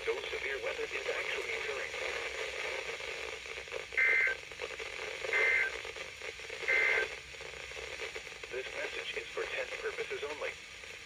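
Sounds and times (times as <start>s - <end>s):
steady radio hiss: 0.0s - 11.0s.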